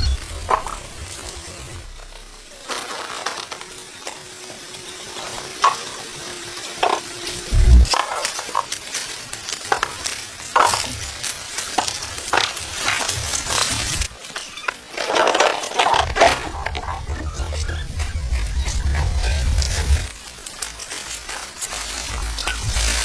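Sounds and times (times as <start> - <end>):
crackling and rustling: 0.0 - 23.0.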